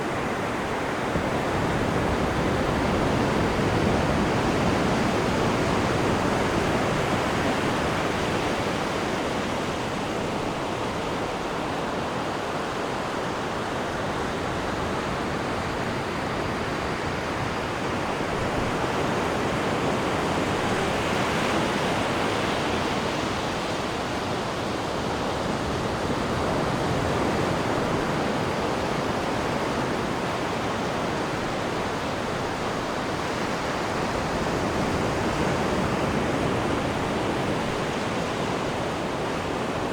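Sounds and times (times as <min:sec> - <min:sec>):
churning water of ship wake: 0:00.0 - 0:39.9.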